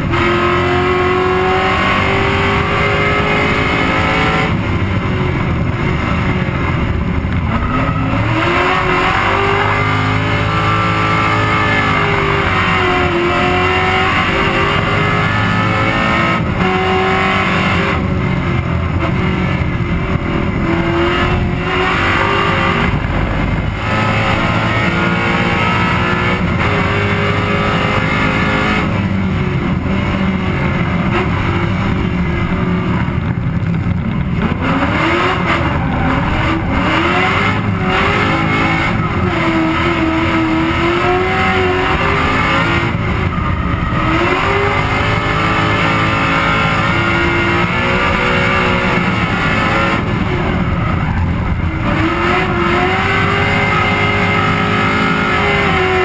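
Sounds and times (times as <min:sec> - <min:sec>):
car engine at full throttle: 0:00.0 - 0:56.0.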